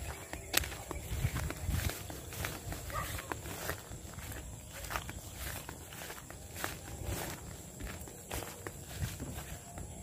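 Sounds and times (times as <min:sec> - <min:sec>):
footsteps on dirt path: 0:00.0 - 0:10.0.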